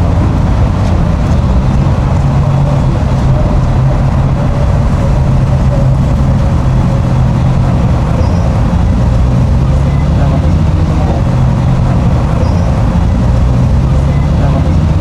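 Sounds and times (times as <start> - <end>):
motor running steadily: 0.0 - 15.0.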